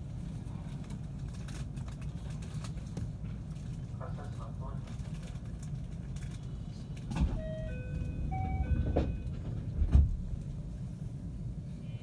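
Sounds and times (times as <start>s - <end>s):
electric train rumble: 0.0s - 12.0s.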